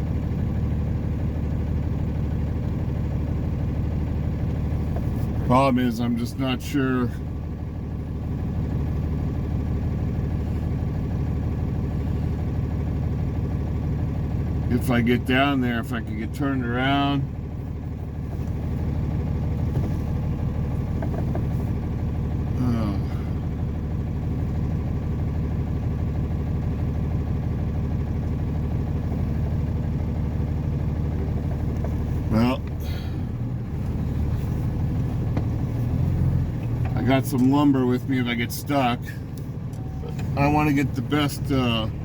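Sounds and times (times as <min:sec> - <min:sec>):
truck engine running: 0:00.0 - 0:42.0.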